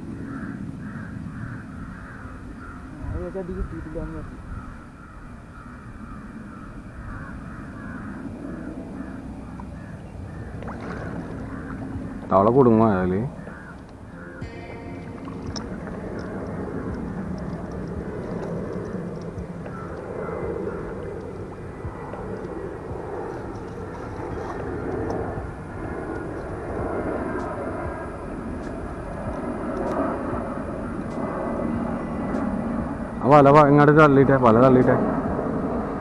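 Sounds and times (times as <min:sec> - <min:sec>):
low rumbling drone: 0:00.0 - 0:36.0.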